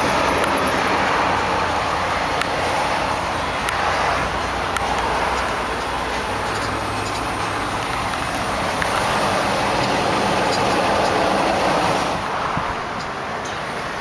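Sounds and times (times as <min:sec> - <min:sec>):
car engine idling: 0:00.0 - 0:13.2.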